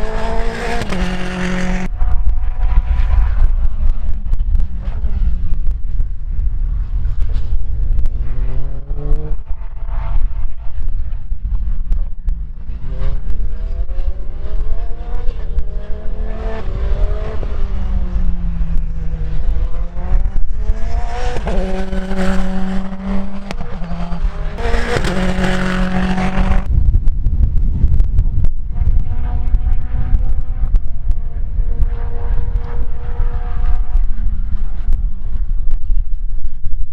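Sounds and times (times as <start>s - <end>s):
race car engine revving: 0.0s - 26.7s, 28.7s - 35.4s.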